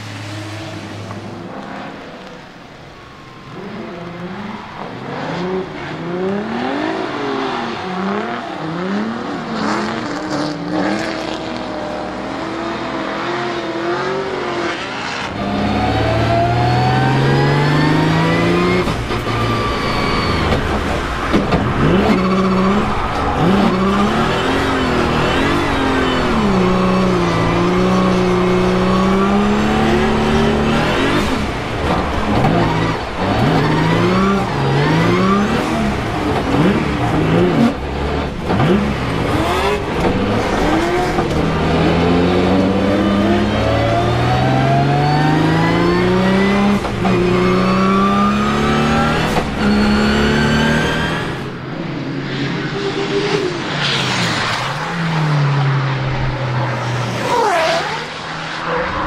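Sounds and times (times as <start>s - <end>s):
car engine revving: 3.1s - 59.0s.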